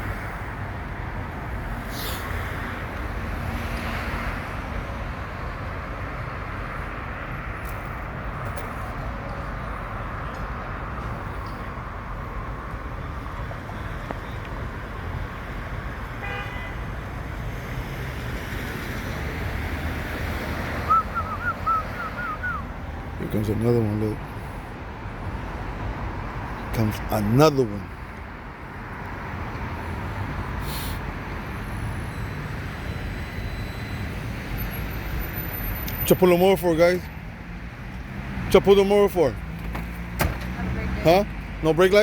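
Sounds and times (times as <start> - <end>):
passing cars: 0.0 - 42.0.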